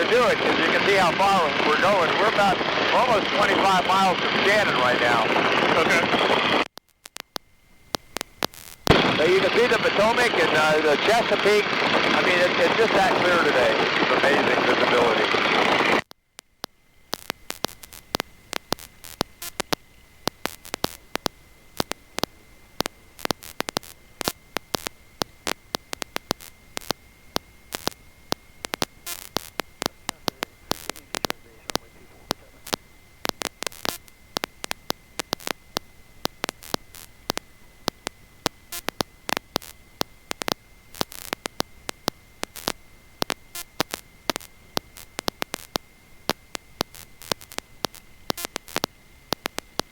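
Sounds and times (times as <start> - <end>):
faint hiss: 0.0 - 49.9
static crackling clicks: 0.0 - 49.9
thin high whine: 0.0 - 49.9.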